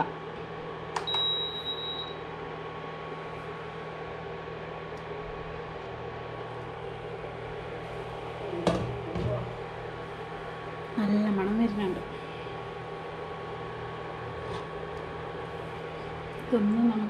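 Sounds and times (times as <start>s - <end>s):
cooker hum: 0.0s - 17.0s.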